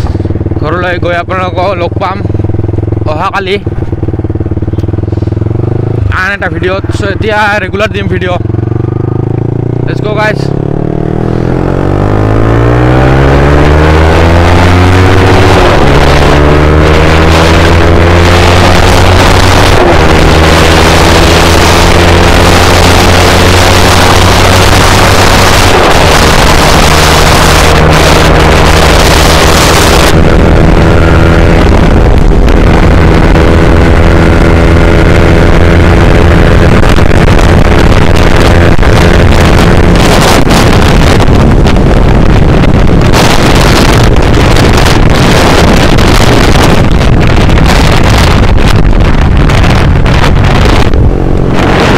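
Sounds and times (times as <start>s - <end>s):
motorcycle engine accelerating: 0.0s - 51.9s
wind buffeting microphone: 0.0s - 51.9s.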